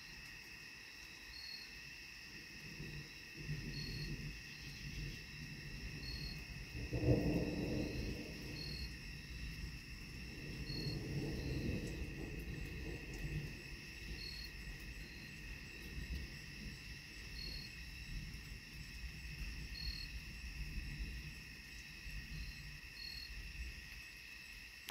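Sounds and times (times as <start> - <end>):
insects chirring: 0.0 - 24.9.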